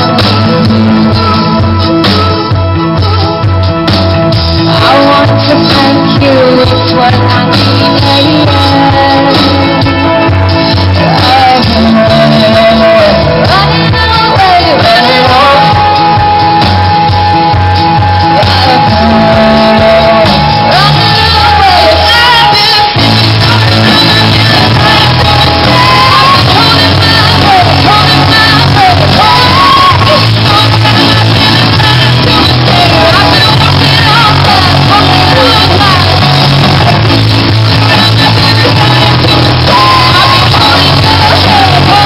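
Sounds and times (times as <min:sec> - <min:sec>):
live rock band: 0:00.0 - 0:42.0
woman singing: 0:00.0 - 0:42.0.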